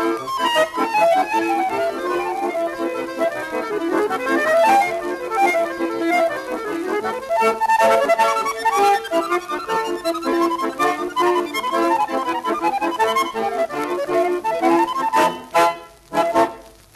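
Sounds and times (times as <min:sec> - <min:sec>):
lively accordion music: 0:00.0 - 0:16.9.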